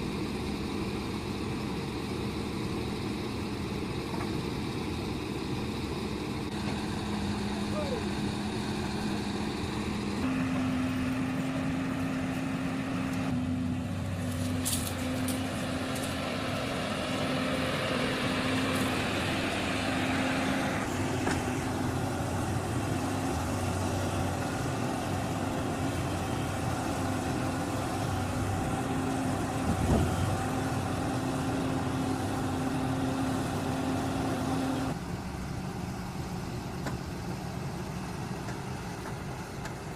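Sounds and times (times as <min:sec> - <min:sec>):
heavy vehicle engines running: 0:00.0 - 0:39.9.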